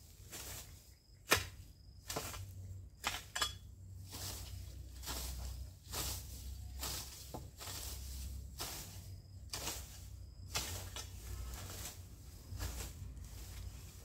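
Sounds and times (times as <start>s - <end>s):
hoe chopping through soil: 0.2s - 3.4s, 4.0s - 13.6s.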